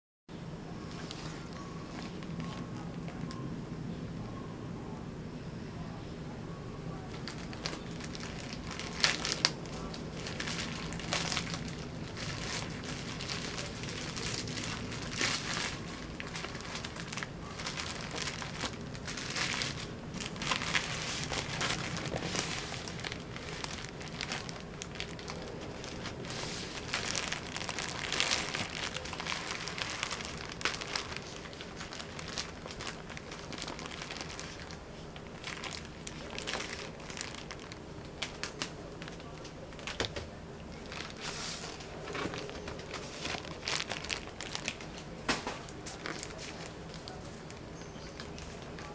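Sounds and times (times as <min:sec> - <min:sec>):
plastic mailer crinkling: 0:00.8 - 0:03.4, 0:07.1 - 0:48.9.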